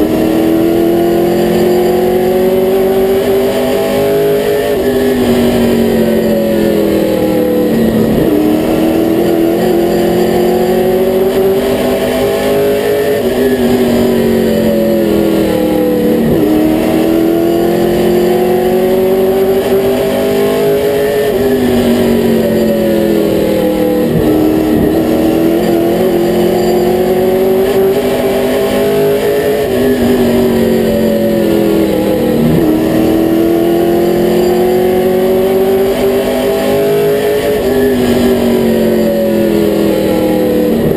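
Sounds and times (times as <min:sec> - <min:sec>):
race car engine at speed: 0:00.0 - 0:40.9.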